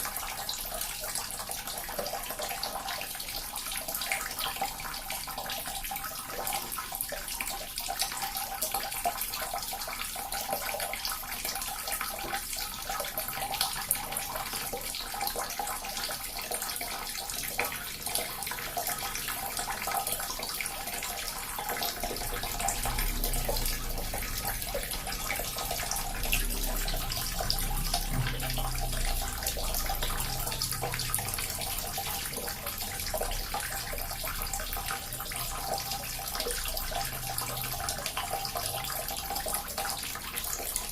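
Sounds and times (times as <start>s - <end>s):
water fountain trickling: 0.0s - 40.9s.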